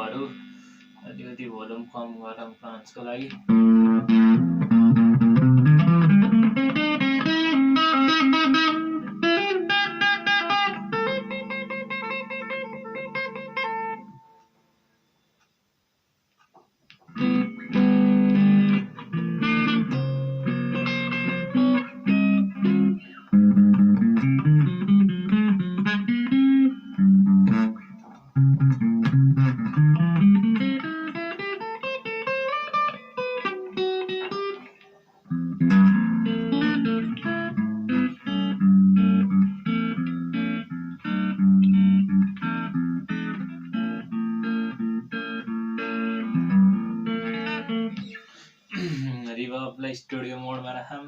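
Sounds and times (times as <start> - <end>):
distorted electric guitar: 0.0 - 14.6, 16.9 - 49.4.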